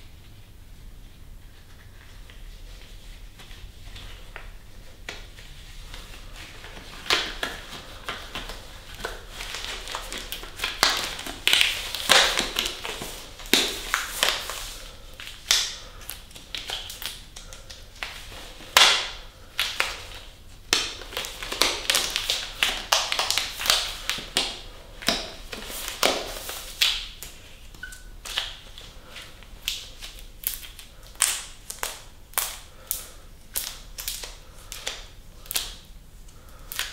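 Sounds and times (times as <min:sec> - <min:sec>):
latex gloves stretching and snapping: 0:01.8 - 0:35.9.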